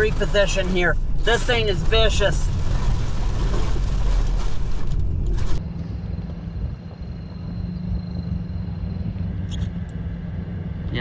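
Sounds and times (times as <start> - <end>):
low vehicle hum: 0.0 - 11.0.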